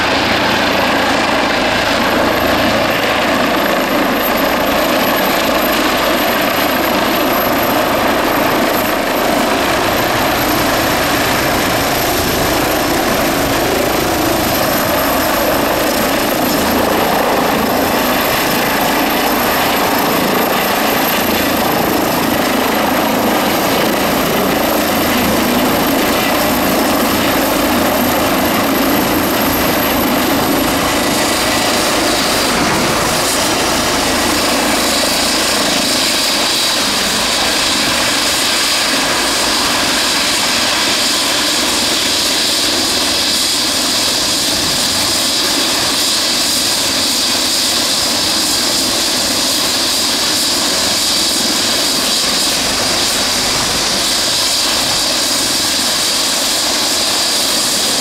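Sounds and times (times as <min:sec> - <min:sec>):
turbine whine: 0:00.0 - 0:47.2
helicopter rotor: 0:00.0 - 0:58.0.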